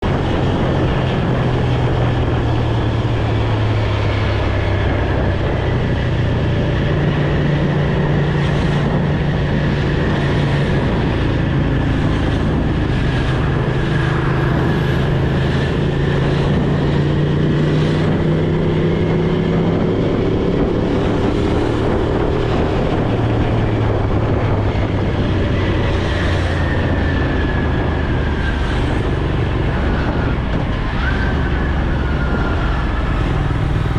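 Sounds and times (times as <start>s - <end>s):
road noise: 0.0s - 33.9s
vehicle engine humming: 0.0s - 33.9s.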